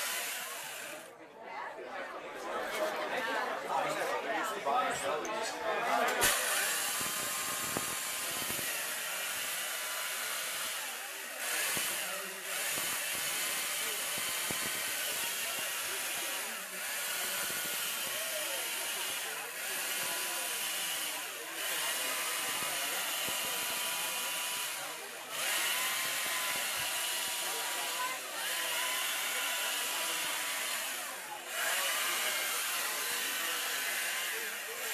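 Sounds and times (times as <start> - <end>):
chainsaw carving ice: 0.0 - 1.1, 6.0 - 34.9.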